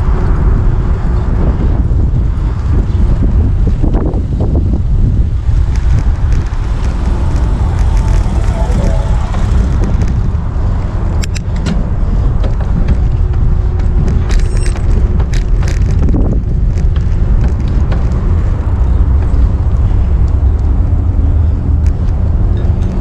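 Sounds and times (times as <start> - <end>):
vehicle road noise: 0.0 - 23.0
wind noise on microphone: 0.0 - 23.0.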